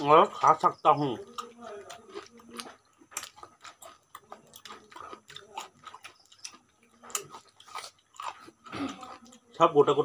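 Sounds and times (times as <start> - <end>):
person chewing food: 0.0 - 9.7.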